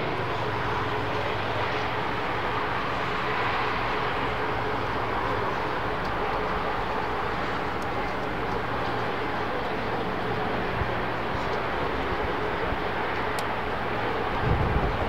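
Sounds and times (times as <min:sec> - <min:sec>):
distant jet engine: 0:00.0 - 0:15.0
passing road traffic: 0:00.0 - 0:15.0.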